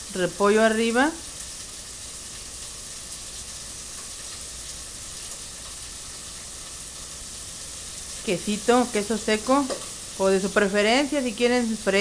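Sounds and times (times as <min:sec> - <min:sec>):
chicken sizzling in fat: 0:00.0 - 0:12.0.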